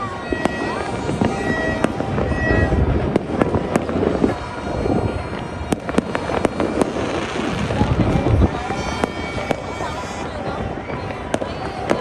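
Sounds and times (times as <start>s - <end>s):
distant fireworks bangs: 0.0s - 12.0s
wash of fireworks bursts: 0.0s - 12.0s.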